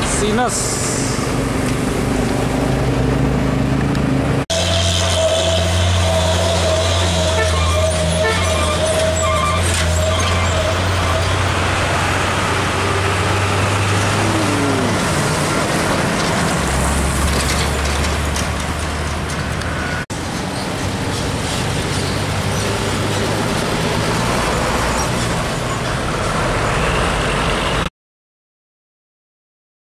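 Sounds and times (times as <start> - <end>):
diesel trucks passing: 0.0 - 27.9
road traffic noise: 0.0 - 27.9.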